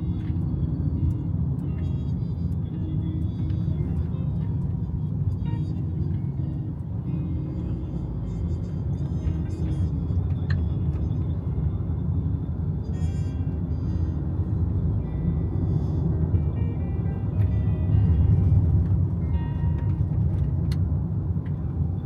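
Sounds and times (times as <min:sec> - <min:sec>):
light music: 0:00.0 - 0:22.0.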